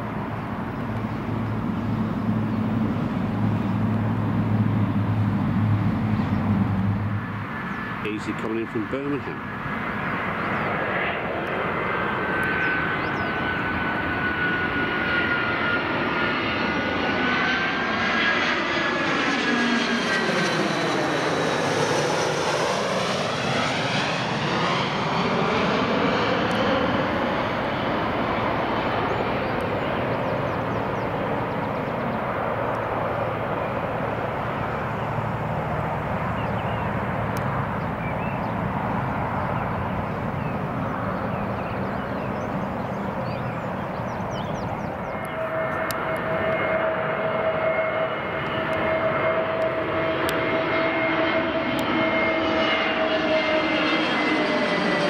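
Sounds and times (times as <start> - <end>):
jet airliner flying overhead: 0.0 - 55.0.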